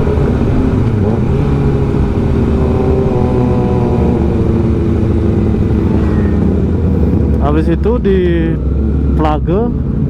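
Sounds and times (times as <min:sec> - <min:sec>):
motorcycle engine cruising: 0:00.0 - 0:09.8.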